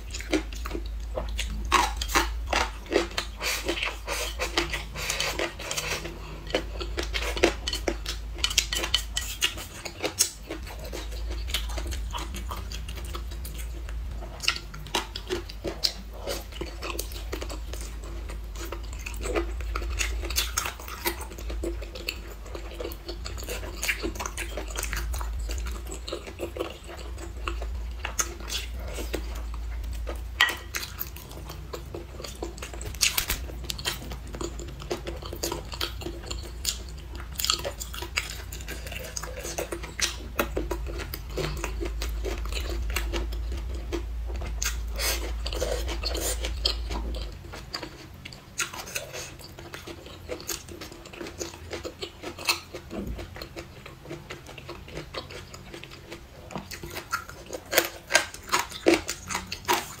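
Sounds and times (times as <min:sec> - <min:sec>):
close chewing and biting: 0:00.0 - 1:00.0
low steady hum: 0:00.0 - 1:00.0.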